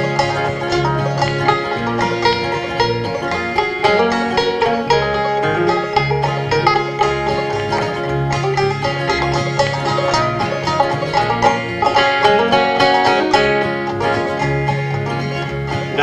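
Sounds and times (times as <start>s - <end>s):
acoustic guitars playing: 0.0s - 16.0s
banjo picking: 0.0s - 16.0s.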